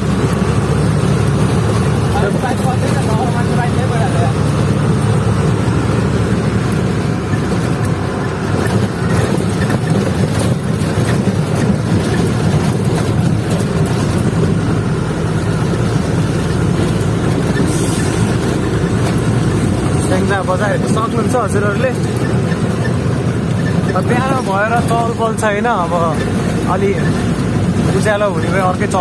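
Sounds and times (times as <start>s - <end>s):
road rumble: 0.0s - 29.0s
truck engine running: 0.0s - 29.0s.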